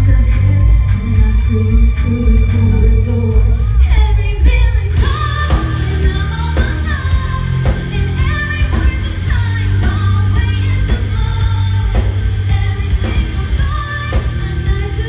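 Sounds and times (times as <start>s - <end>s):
bass guitar: 0.0s - 15.0s
drums: 0.0s - 15.0s
woman singing: 0.0s - 15.0s.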